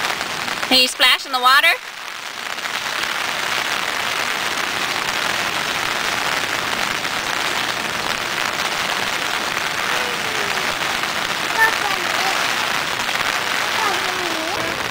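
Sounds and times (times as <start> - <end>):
heavy rain on concrete and grass: 0.0 - 14.9.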